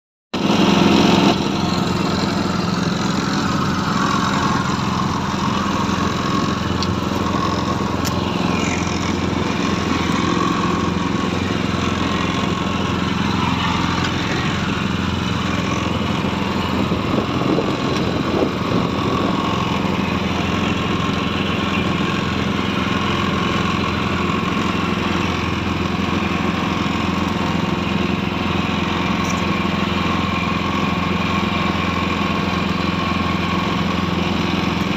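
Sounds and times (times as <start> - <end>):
small petrol engine running: 0.4 - 34.9.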